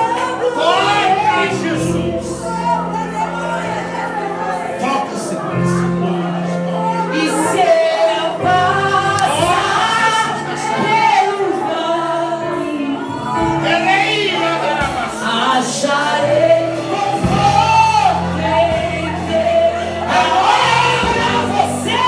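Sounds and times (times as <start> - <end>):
backing voices singing: 0.0 - 22.0
sustained keyboard chords: 0.0 - 22.0
woman singing gospel: 0.0 - 22.0.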